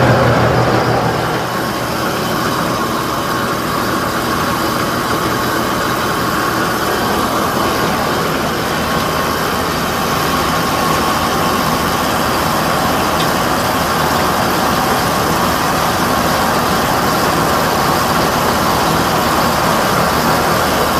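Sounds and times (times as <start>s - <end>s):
engine driving feed grinder: 0.0s - 20.9s.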